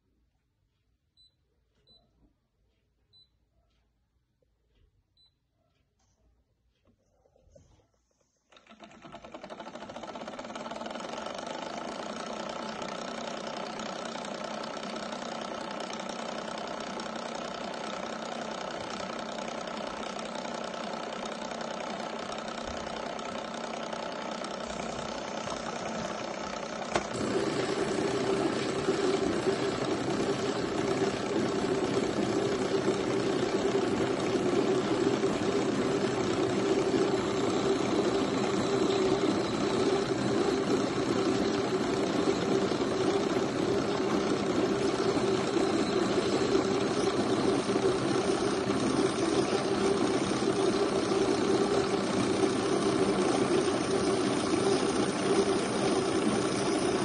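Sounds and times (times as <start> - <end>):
coffee machine humming: 8.5 - 57.0.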